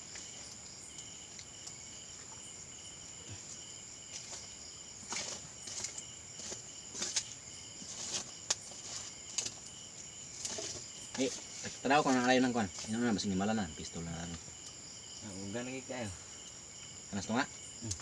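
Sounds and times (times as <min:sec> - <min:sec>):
crickets pulsing chirp: 0:00.0 - 0:18.0
insect high continuous trill: 0:00.0 - 0:18.0.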